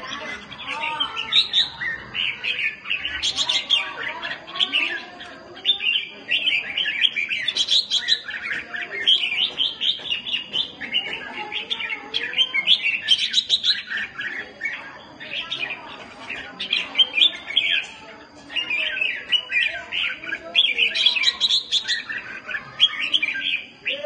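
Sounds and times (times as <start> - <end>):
birds chirping and chattering: 0.0 - 24.0.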